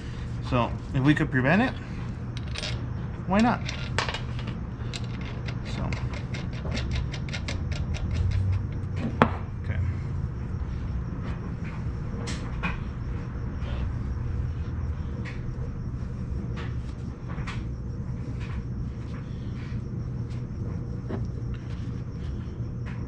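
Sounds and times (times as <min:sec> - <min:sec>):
low rumbling hum: 0:00.0 - 0:23.0.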